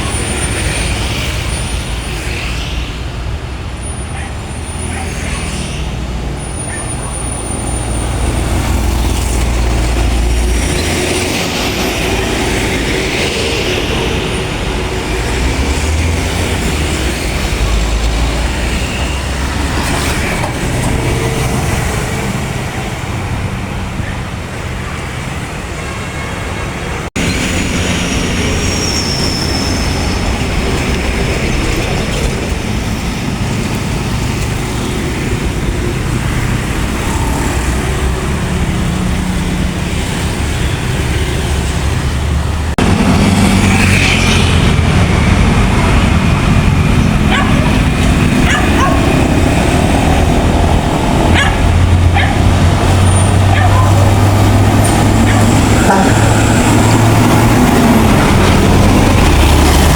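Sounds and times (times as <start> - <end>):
bus engine rumble: 0.0 - 59.9
tyre and road noise: 0.0 - 59.9.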